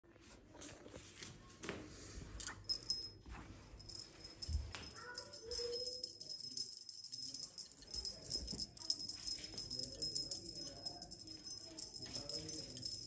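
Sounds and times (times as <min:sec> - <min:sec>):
small bells jingling: 0:02.4 - 0:13.0.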